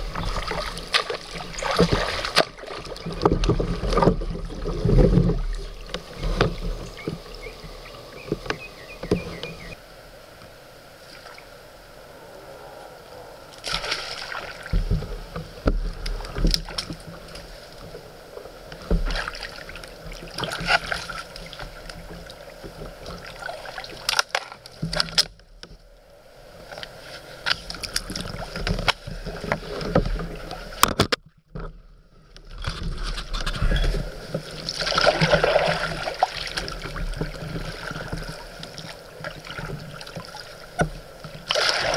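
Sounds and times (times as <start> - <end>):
kayak paddle splashing: 0.0 - 31.8, 32.5 - 41.9.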